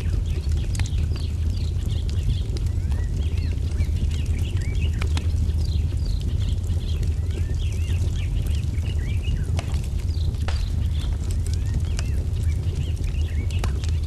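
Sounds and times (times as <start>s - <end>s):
small birds chirping: 0.0s - 14.0s
wood fire crackling: 0.0s - 14.0s.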